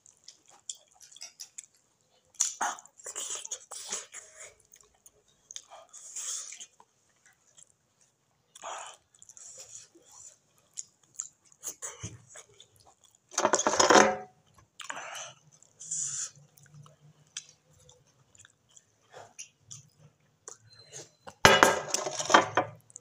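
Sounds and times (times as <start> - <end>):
person chewing with wet mouth noises: 0.0 - 13.3, 14.4 - 21.4.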